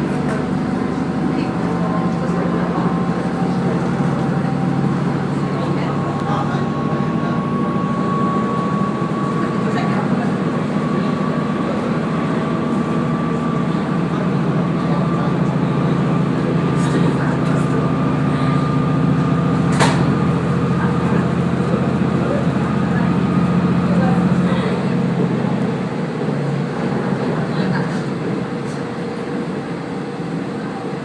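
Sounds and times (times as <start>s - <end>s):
railcar engine and wheels rumble: 0.0s - 31.0s.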